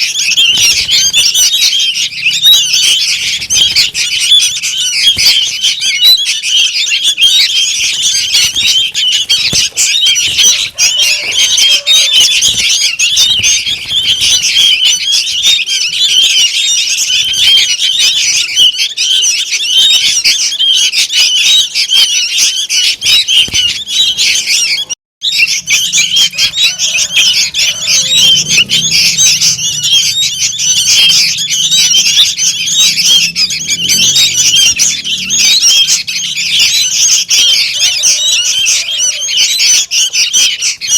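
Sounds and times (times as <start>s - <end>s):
bulbul chicks begging calls: 0.0s - 40.9s.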